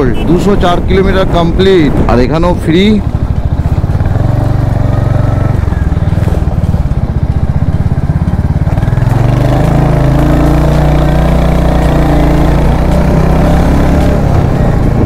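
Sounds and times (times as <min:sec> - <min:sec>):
motorcycle engine running: 0:00.2 - 0:15.0.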